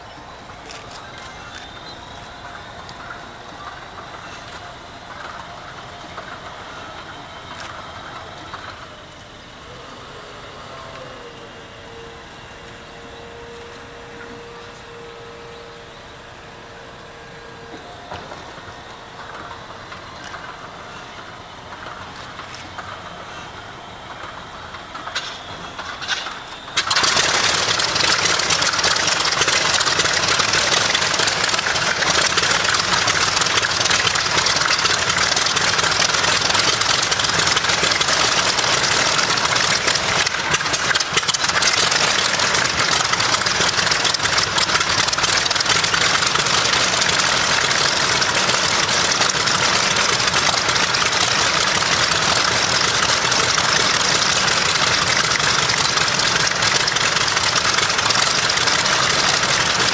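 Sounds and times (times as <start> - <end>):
radial aircraft engine starting: 0.0 - 59.9.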